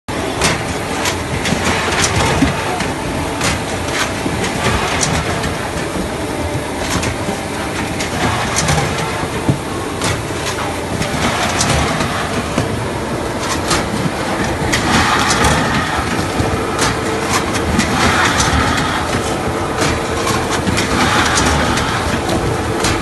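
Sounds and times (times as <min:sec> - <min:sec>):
machinery din: 0:00.1 - 0:23.0.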